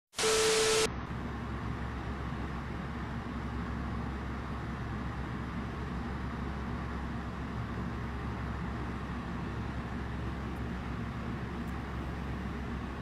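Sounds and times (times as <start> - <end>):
low rumble and hiss in car: 0.7 - 13.0.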